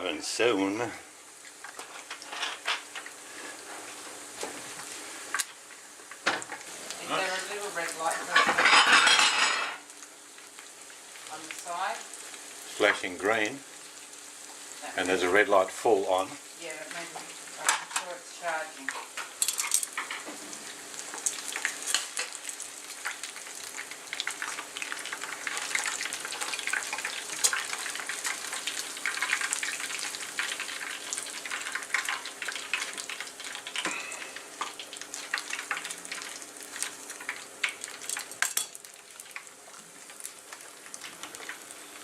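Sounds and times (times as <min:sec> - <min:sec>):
chicken frying in hot oil: 0:00.0 - 0:42.0.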